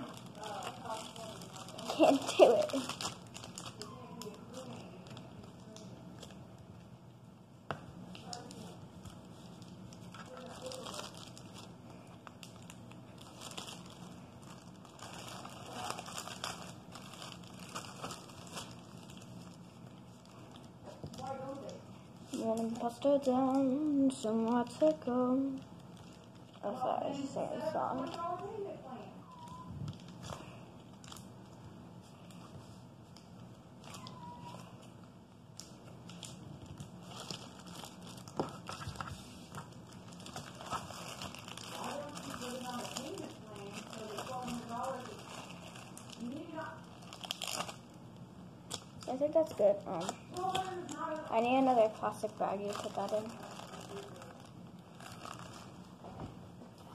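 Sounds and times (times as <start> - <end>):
plastic wrapping crinkling: 0.0 - 6.9, 7.7 - 56.9.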